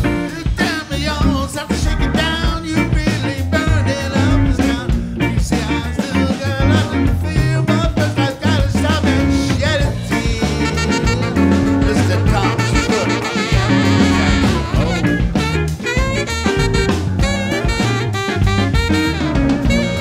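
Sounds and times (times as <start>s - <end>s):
live band playing ska-funk: 0.0s - 20.0s
man singing lead: 0.0s - 20.0s.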